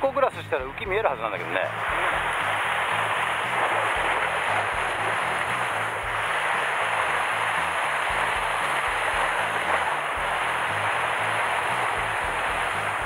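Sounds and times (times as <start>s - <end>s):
background music with bass: 0.0s - 13.0s
sea water washing on rocks: 1.0s - 13.0s.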